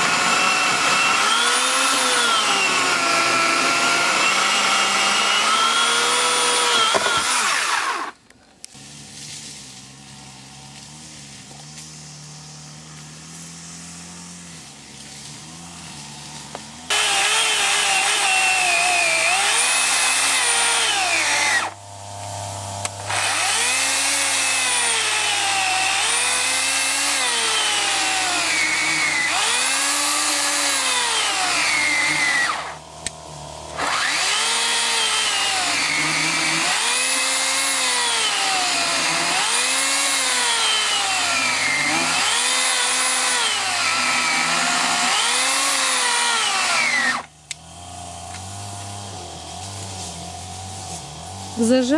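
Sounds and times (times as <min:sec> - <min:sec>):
electric chainsaw cutting log: 0:00.0 - 0:51.9.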